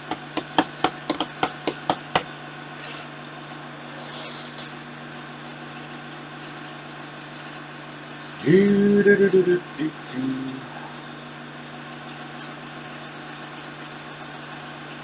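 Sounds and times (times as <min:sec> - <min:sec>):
low hum: 0:02.4 - 0:14.6.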